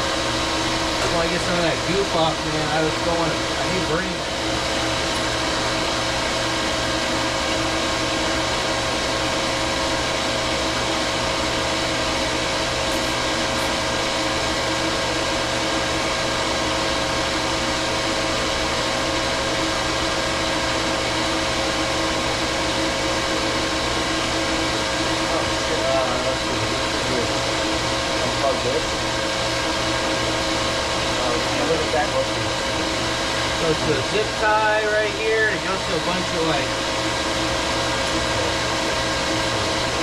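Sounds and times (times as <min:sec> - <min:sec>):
machine whirring and humming: 0:00.0 - 0:40.0.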